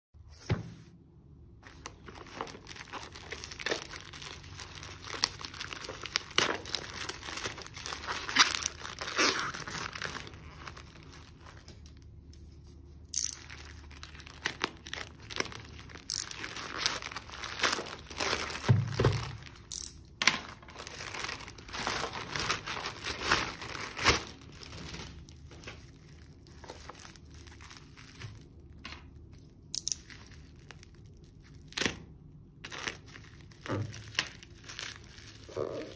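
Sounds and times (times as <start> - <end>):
plastic bag crinkling and tearing: 1.6 - 12.2, 13.2 - 29.3, 29.9 - 35.9
plastic wrap rustling: 1.6 - 31.8, 32.6 - 35.9.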